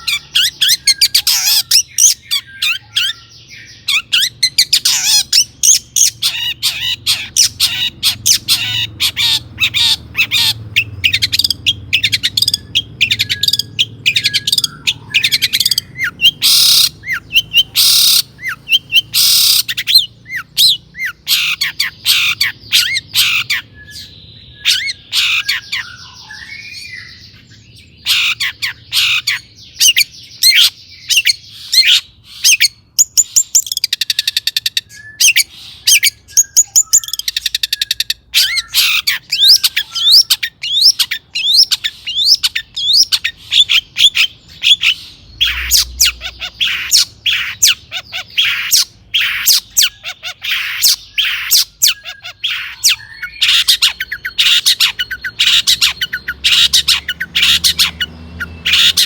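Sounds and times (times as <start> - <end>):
bird buzzy trills: 0.0 - 59.0
bird singing sharp chirps: 0.0 - 59.0.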